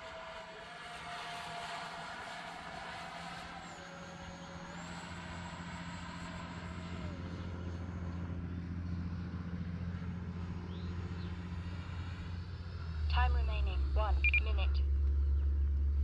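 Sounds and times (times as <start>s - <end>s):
model jet fan whining: 0.0s - 14.1s.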